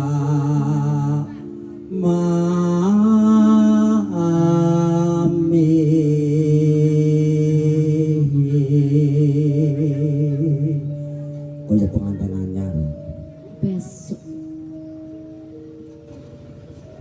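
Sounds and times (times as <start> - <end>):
person singing long held notes: 0.0 - 14.5
sustained instrumental tones: 0.0 - 17.0.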